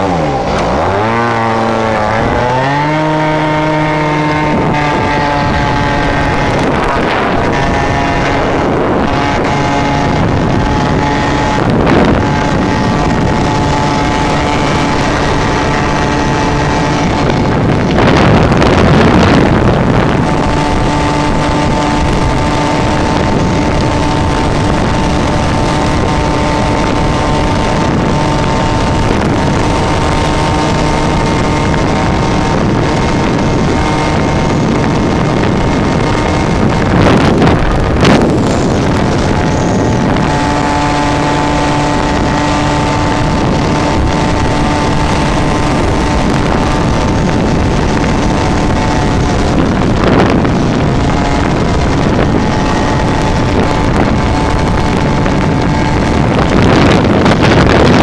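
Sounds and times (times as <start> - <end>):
two-stroke motorbike engine running: 0.0 - 58.0
wind rushing over microphone: 0.0 - 58.0.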